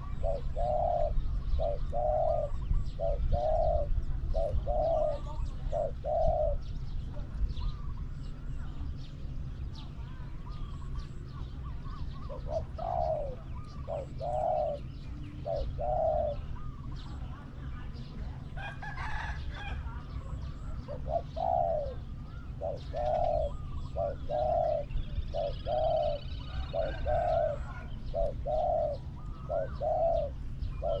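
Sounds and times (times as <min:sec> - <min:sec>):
doves cooing: 0:00.0 - 0:31.0
small birds chirping: 0:00.0 - 0:31.0
steady low rumble: 0:00.0 - 0:31.0.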